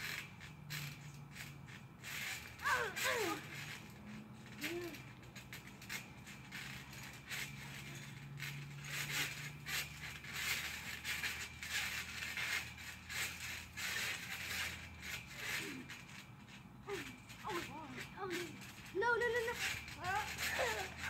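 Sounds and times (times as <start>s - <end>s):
trampoline springs creaking: 0.0s - 21.0s.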